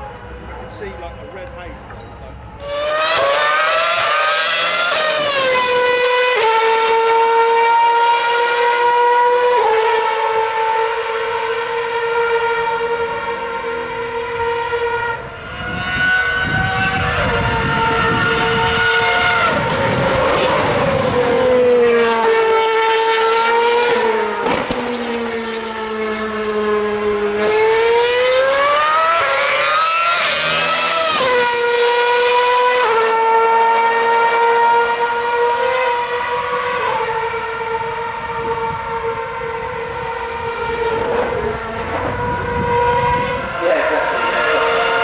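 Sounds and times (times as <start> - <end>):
racing car engines: 0.0 - 45.0.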